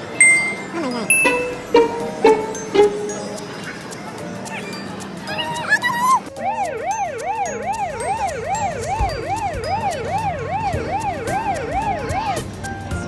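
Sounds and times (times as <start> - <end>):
light clatter of play area: 0.0 - 13.0.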